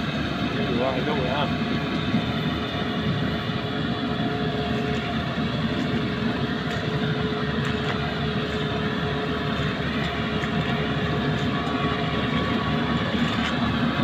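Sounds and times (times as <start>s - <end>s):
harvesting machine engine drone: 0.0s - 14.0s.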